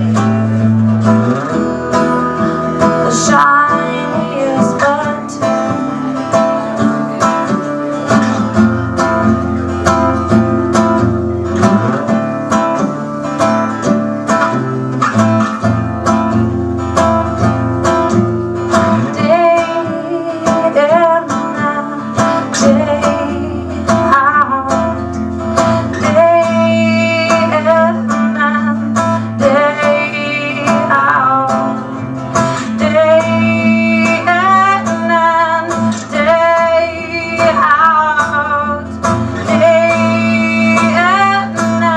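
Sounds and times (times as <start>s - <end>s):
acoustic guitar strumming: 0.0s - 41.9s.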